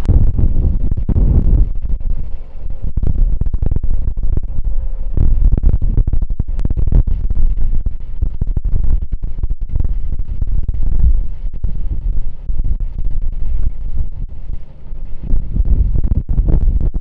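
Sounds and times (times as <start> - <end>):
earthmoving machinery rumbling: 0.0 - 17.0
wind buffeting microphone: 0.0 - 17.0.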